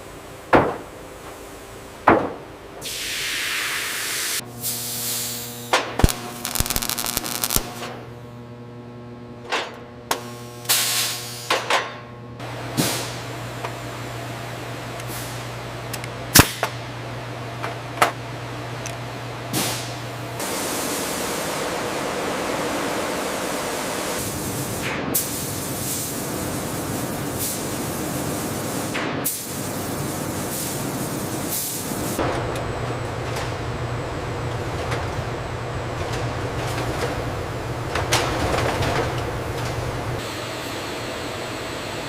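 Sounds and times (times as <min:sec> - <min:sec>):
machinery hum: 0:00.0 - 0:42.0.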